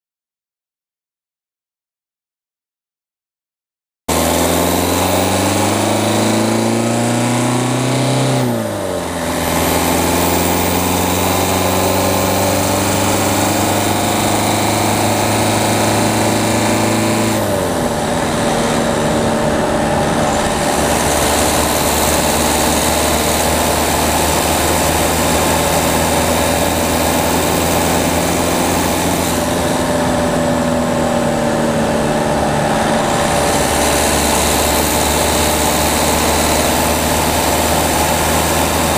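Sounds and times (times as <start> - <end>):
diesel car engine accelerating: 4.1 - 38.9
road noise: 4.1 - 38.9
wind noise: 4.2 - 38.9.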